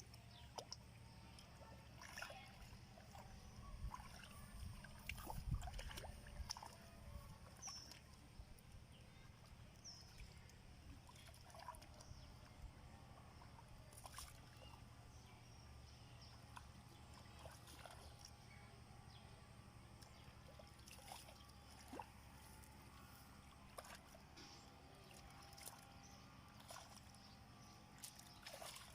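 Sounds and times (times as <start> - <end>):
faint low outdoor rumble: 0.0 - 28.9
light water sounds: 0.0 - 28.9.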